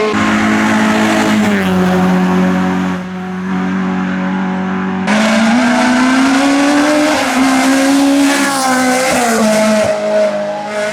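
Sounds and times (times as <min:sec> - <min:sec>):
race car engine at high revs: 0:00.0 - 0:10.9.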